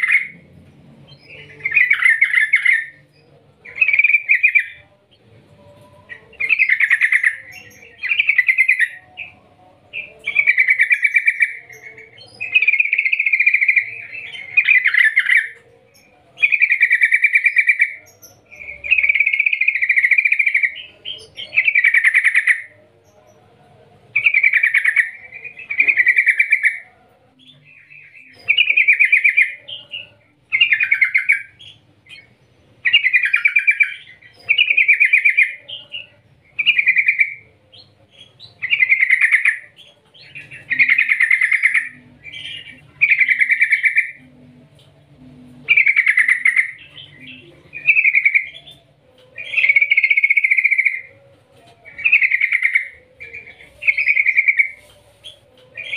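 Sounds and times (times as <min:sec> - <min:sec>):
bird singing trilled phrases: 0:00.0 - 0:23.2, 0:24.2 - 0:26.8, 0:27.4 - 0:44.9, 0:45.5 - 0:51.2, 0:51.9 - 0:55.9.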